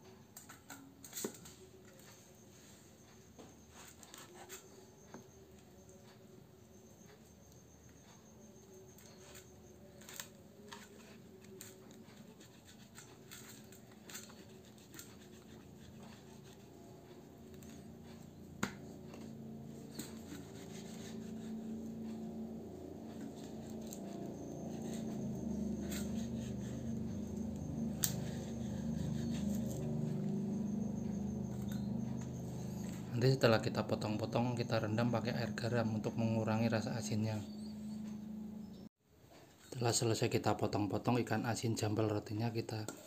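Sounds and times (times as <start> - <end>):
low steady hum: 1.6 - 38.9.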